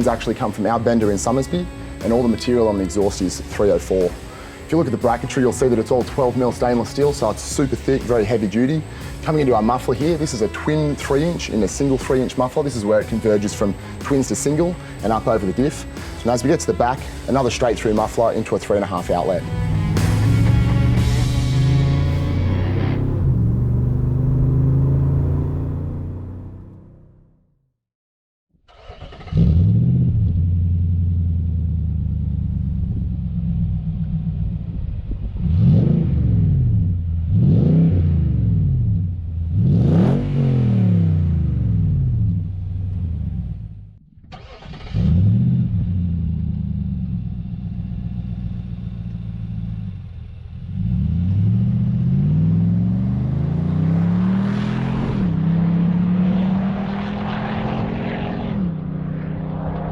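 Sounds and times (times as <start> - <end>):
car engine idling and revving: 0.0 - 27.4, 28.7 - 59.9.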